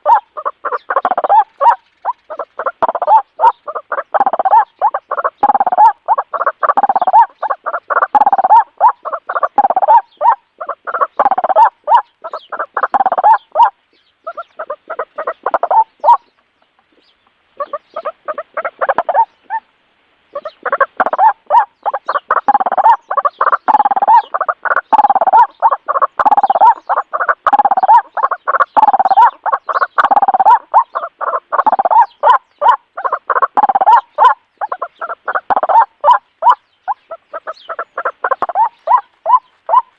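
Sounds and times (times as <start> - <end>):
birds chattering calls: 0.0 - 19.7, 20.3 - 39.9.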